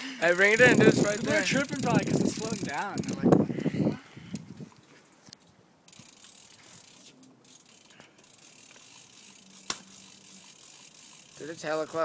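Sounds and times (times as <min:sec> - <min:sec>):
fishing reel cranking: 0:00.2 - 0:04.5, 0:05.9 - 0:12.0.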